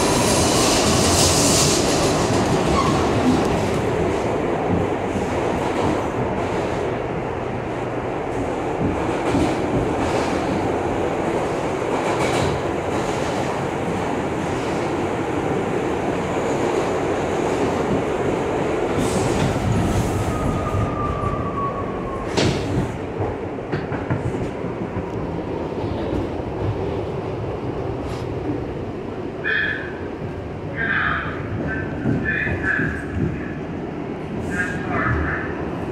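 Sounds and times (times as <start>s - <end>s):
subway car rumble: 0.0s - 35.9s.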